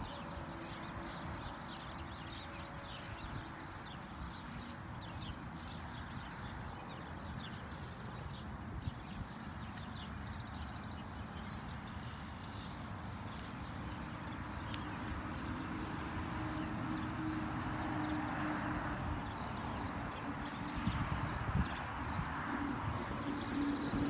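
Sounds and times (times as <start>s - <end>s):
footsteps on grass: 0.0s - 24.0s.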